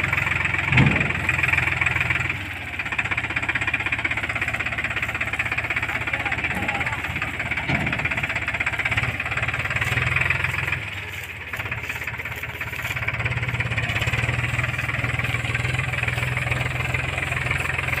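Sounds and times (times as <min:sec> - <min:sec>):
tractor diesel engine chugging: 0:00.0 - 0:18.0.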